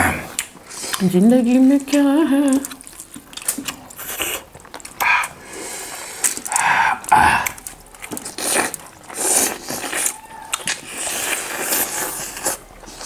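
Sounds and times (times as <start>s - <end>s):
biting and chewing: 0.0s - 13.0s.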